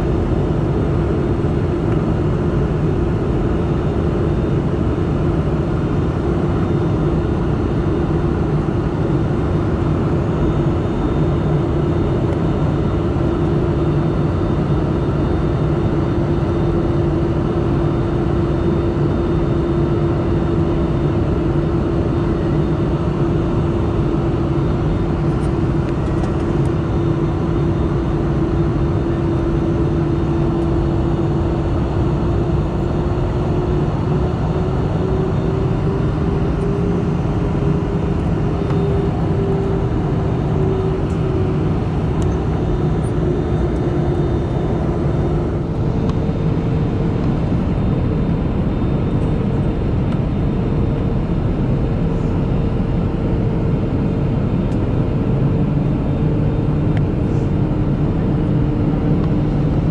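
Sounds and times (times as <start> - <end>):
droning jet engine: 0.0 - 59.9.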